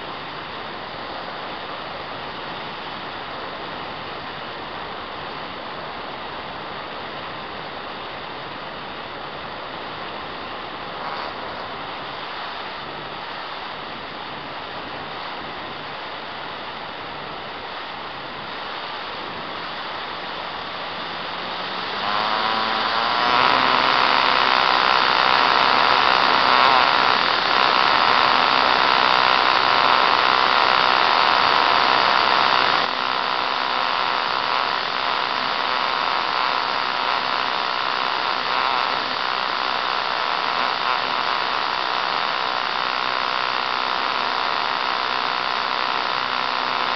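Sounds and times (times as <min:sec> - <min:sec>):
electric motor and propeller whine: 0:00.0 - 0:46.9.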